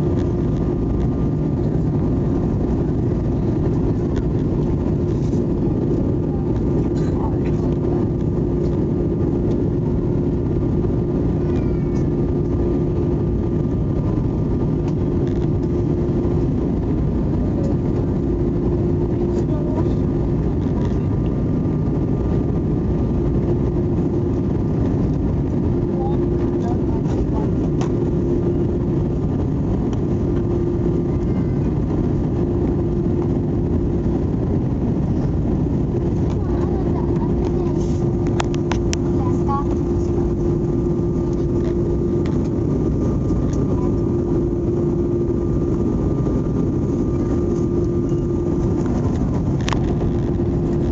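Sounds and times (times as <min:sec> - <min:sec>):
airliner cabin engine rumble: 0:00.0 - 0:50.9
mid-pitched hum: 0:00.0 - 0:50.9.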